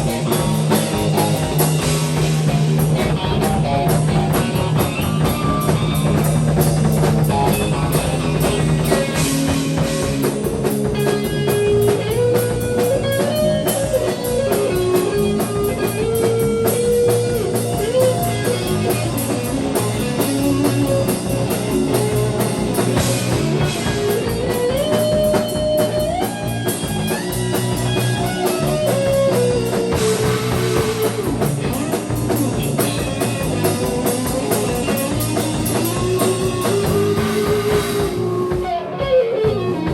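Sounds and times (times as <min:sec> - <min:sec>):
bass guitar: 0:00.0 - 0:39.9
busy drum kit: 0:00.0 - 0:39.9
electric guitar lead: 0:00.0 - 0:39.9.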